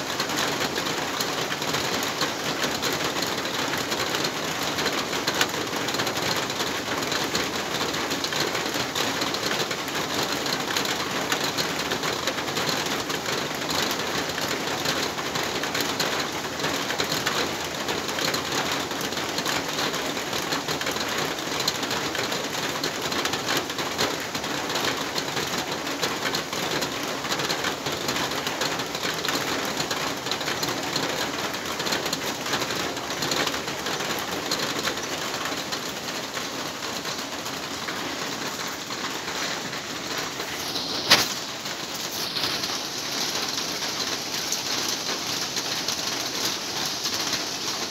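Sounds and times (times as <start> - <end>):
heavy rain on a metal roof: 0.0 - 47.9.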